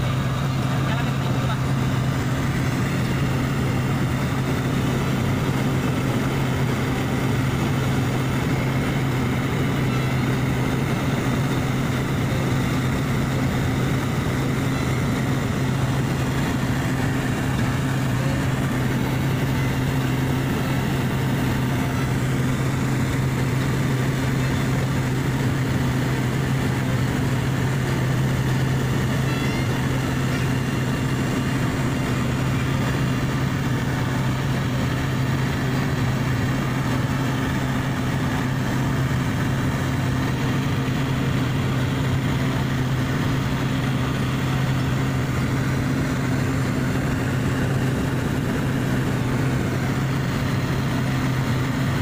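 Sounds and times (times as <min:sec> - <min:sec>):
propeller plane cabin drone: 0:00.0 - 0:52.0.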